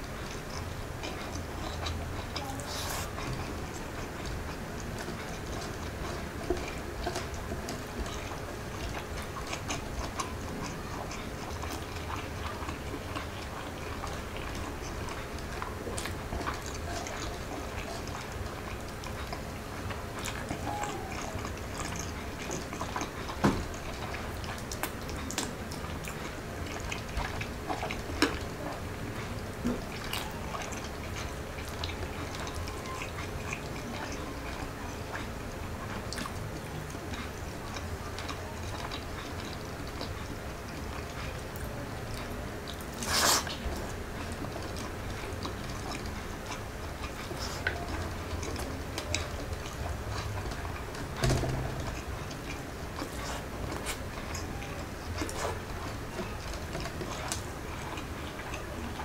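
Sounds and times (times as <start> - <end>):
person chewing: 0.0 - 59.0.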